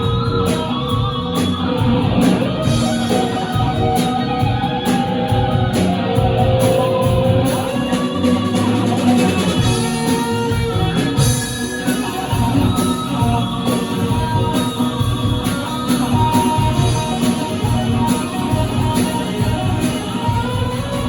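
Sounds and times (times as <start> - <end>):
drum beat: 0.0 - 21.0
electric guitar: 0.0 - 21.0
rock band playing live: 0.0 - 21.0.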